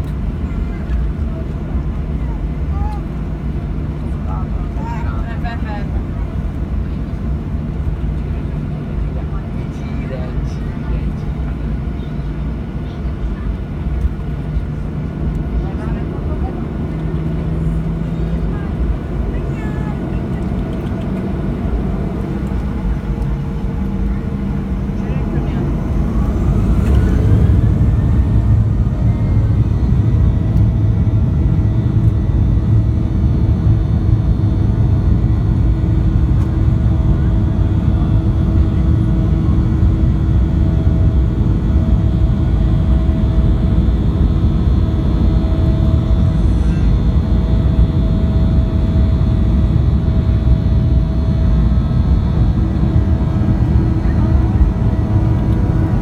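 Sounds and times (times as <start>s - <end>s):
jet engines rumbling in cabin: 0.0s - 56.0s
steady humming tones: 0.0s - 56.0s.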